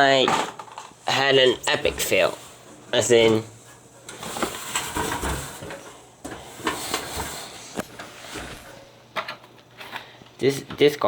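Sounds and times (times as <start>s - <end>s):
computer parts rustling and clicking: 0.1s - 10.9s.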